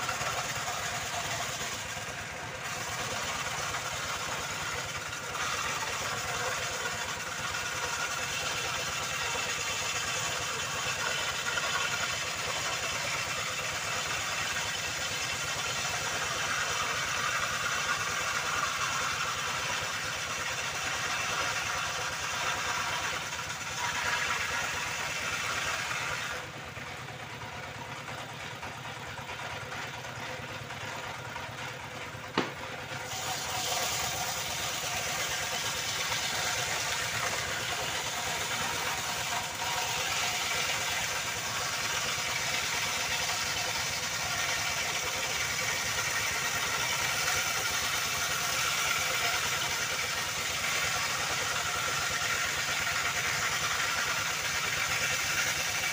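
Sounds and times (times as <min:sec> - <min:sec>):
circular saw running: 0:00.0 - 0:55.9.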